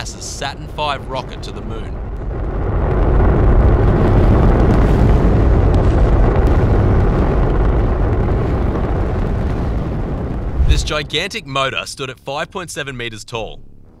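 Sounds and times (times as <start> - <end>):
rocket engines rumbling: 0.0 - 14.0.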